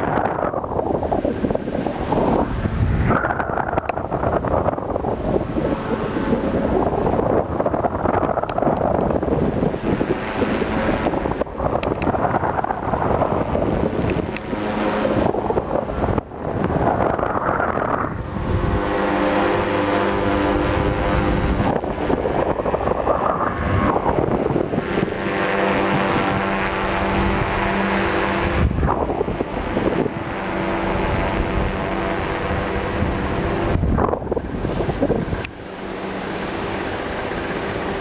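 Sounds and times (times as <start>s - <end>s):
steady multi-tone humming: 0.0s - 38.0s
wind buffeting microphone: 0.0s - 38.0s.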